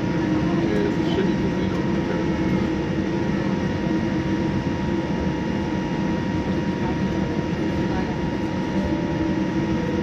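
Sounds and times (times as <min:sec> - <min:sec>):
aircraft cabin engine rumble: 0:00.0 - 0:10.0.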